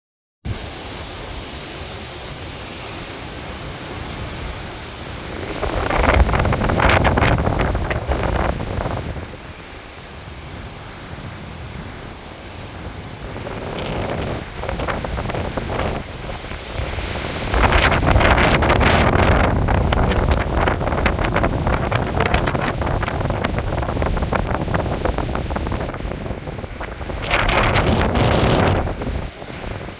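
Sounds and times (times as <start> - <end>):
storm wind rushing: 0.5 - 29.9
wind gusts buffeting microphone: 0.5 - 29.9.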